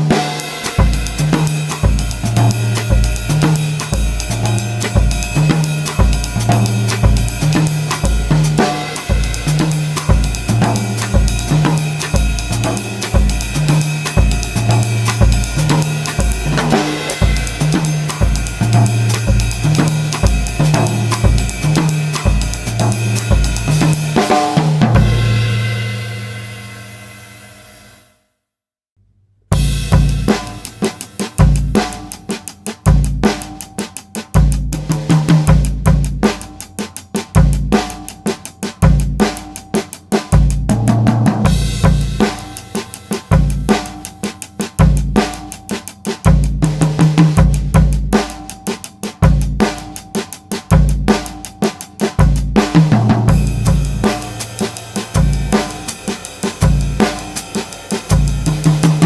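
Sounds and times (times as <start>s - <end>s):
drum kit groove: 0.0s - 28.0s, 29.5s - 59.0s.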